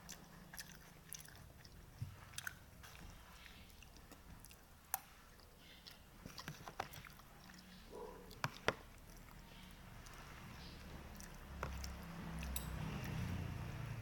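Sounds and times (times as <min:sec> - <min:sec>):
wet chewing and biting: 0:00.0 - 0:13.6.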